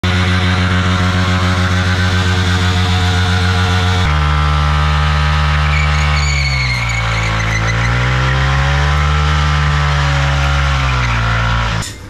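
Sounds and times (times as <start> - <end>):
motorcycle engine revving high: 0.0 - 12.0.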